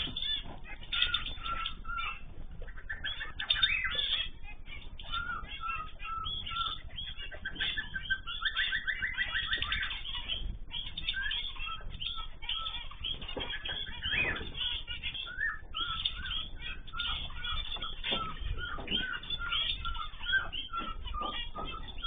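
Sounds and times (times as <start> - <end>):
bird trill: 0.0 - 22.0
finches chirping: 0.0 - 22.0.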